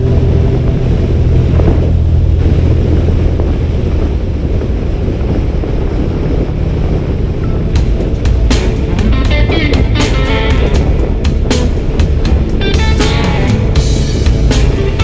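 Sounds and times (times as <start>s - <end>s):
motorcycle engine rumbling: 0.0s - 15.0s
wind rushing over microphone: 0.0s - 15.0s.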